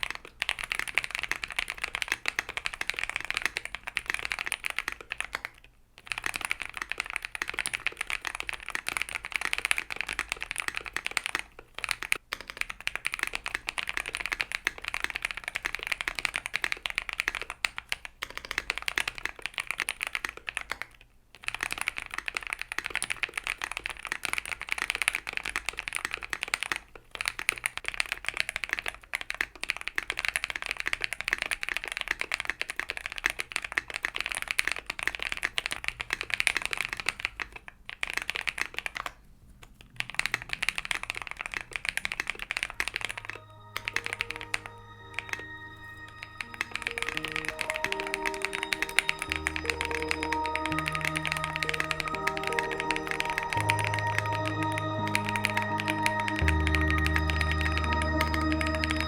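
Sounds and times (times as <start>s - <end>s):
fast mechanical keyboard typing: 0.0s - 59.0s.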